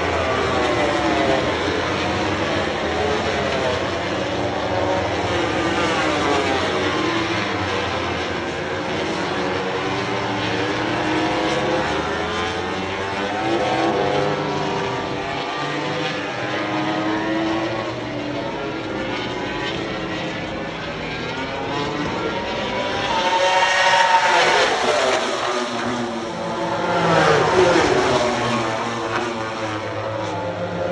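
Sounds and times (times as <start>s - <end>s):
racing motorcycles passing: 0.0s - 30.9s.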